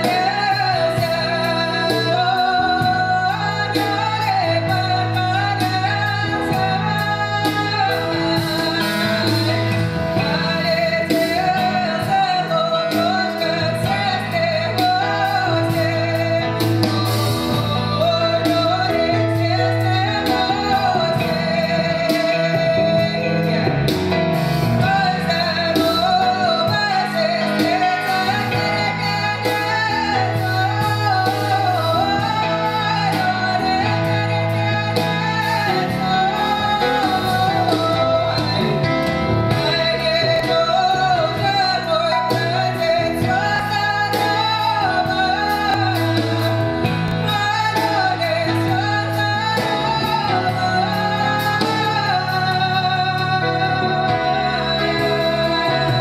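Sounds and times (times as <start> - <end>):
woman singing folk song: 0.0 - 24.1, 24.8 - 56.0
drum kit with cymbals: 0.0 - 56.0
grand piano: 0.0 - 56.0.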